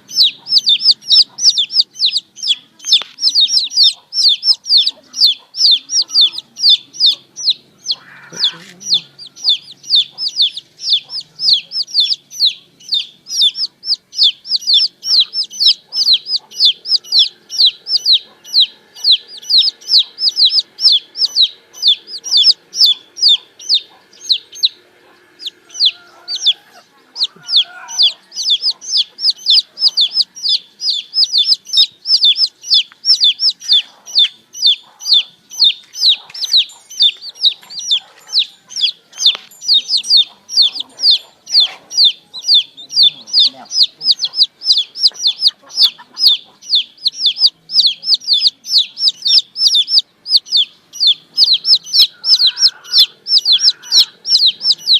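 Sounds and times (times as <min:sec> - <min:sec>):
baby chicks peeping: 0:00.0 - 0:54.9.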